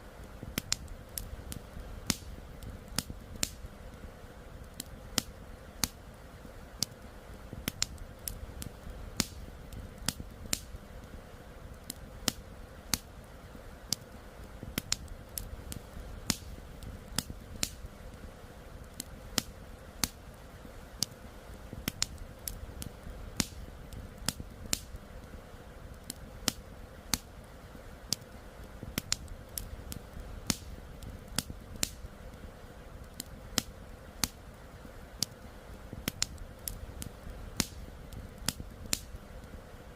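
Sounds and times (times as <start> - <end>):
campfire crackling and popping: 0.0 - 39.9
low rumble of fire: 0.0 - 39.9.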